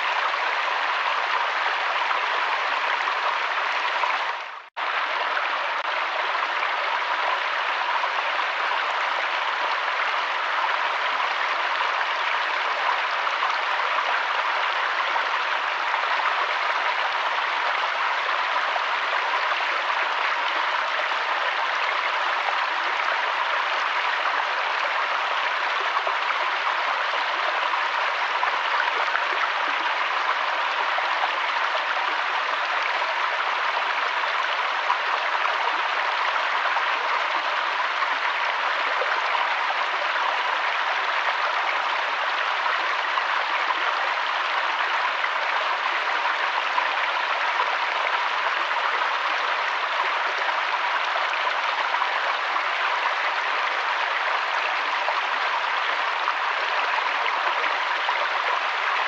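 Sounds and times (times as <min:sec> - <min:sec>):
river water flowing over stones: 0:00.0 - 0:59.0.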